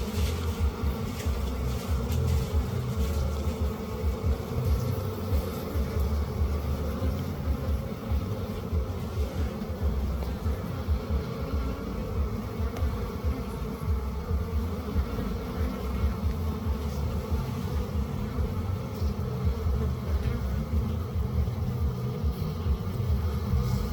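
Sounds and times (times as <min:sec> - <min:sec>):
bees buzzing: 0:00.0 - 0:23.9.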